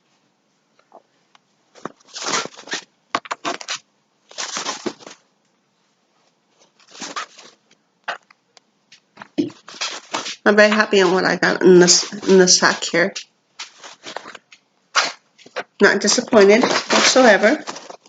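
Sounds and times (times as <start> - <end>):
packaging rustling and crinkling: 1.7 - 5.2, 6.5 - 18.0.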